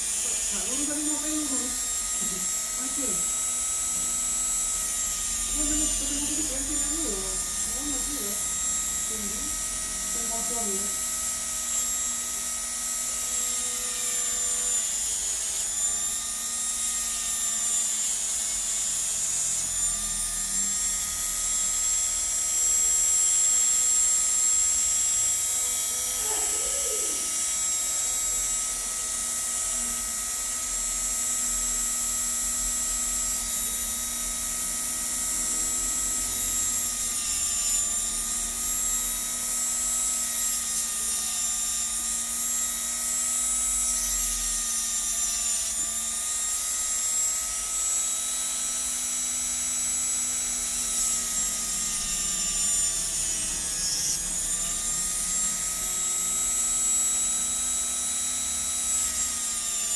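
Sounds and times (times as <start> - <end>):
electric grinder whining: 0.0 - 59.9.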